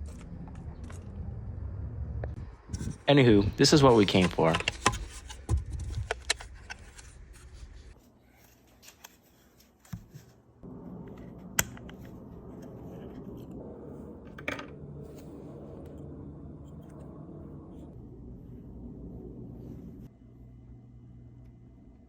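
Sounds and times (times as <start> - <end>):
steady low hum: 0.0 - 8.0, 10.6 - 22.0.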